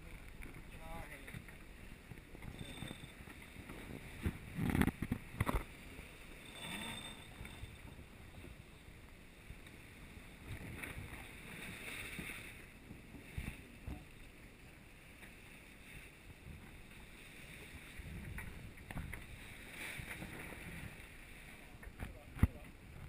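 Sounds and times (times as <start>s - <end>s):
wind and sea rushing past hull: 0.0s - 23.0s.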